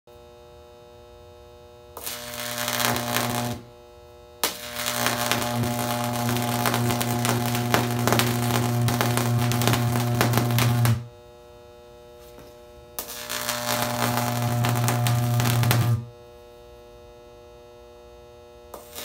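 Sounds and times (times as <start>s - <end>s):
electric arc buzzing and crackling: 0.3s - 19.0s.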